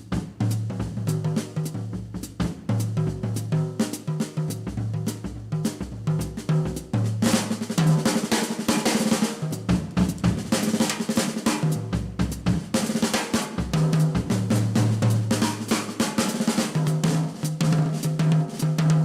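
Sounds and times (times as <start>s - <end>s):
jazz drum kit playing: 0.0s - 19.0s.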